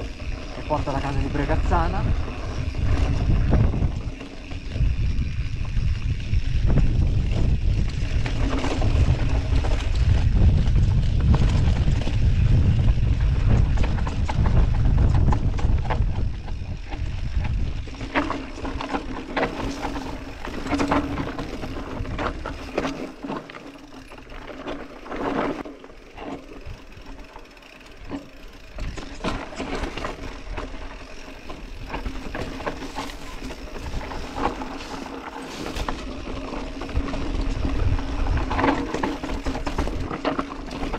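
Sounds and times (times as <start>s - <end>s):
wind buffeting microphone: 0.0s - 22.7s, 28.7s - 35.0s, 35.7s - 40.9s
bike rattling over rocky trail: 0.0s - 40.9s.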